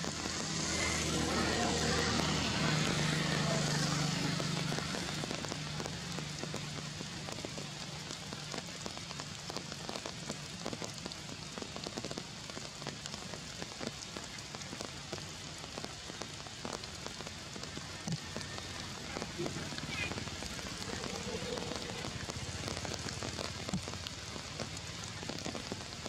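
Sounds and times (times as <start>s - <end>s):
rain pattering: 0.0s - 26.0s.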